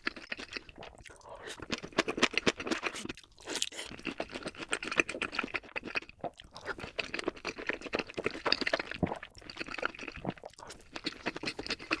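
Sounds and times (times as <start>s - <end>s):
chewing crunchy fried chicken: 0.0s - 12.0s.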